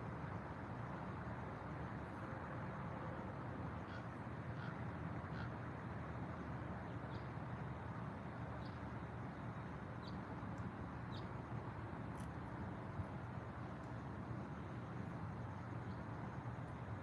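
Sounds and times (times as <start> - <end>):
low background rumble and hiss: 0.0 - 17.0.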